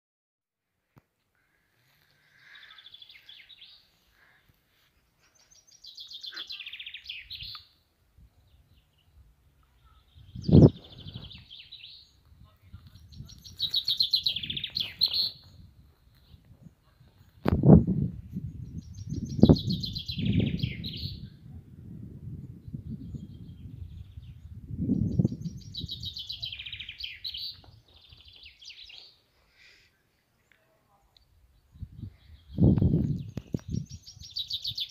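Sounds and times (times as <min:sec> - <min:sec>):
songbird singing: 0:01.4 - 0:21.6, 0:22.2 - 0:34.9.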